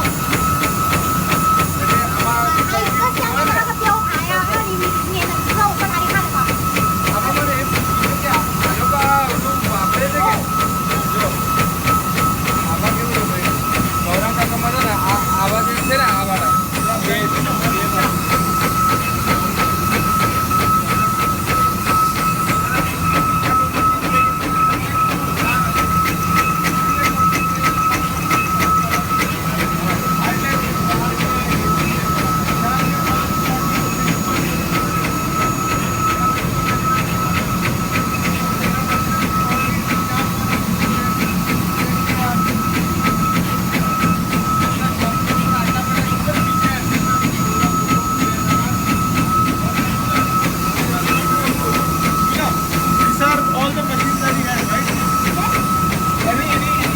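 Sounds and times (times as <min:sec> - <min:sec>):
machine high whine: 0:00.0 - 0:56.9.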